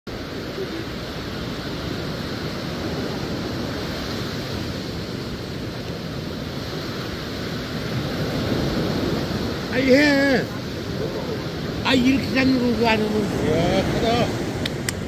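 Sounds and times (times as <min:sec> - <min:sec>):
sea surf: 0:00.1 - 0:15.0
wind rumbling on microphone: 0:00.1 - 0:15.0.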